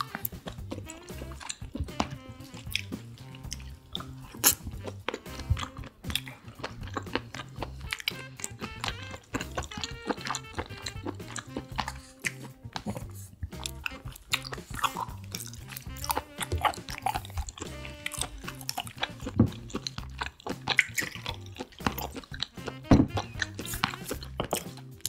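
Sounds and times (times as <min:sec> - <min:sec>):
background music with bass line: 0:00.0 - 0:25.0
mouth clicks and smacks: 0:00.0 - 0:25.0
wet chewing and biting: 0:00.0 - 0:25.0.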